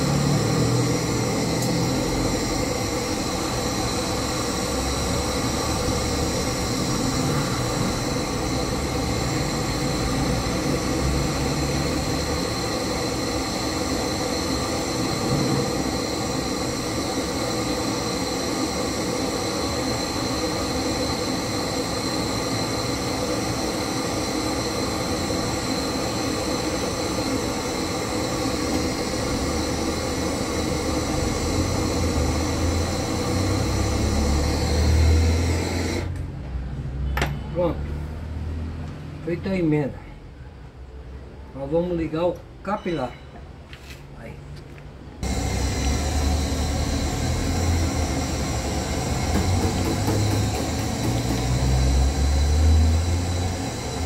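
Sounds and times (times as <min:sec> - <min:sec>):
torch flame hissing: 0:00.0 - 0:36.2, 0:45.2 - 0:54.0.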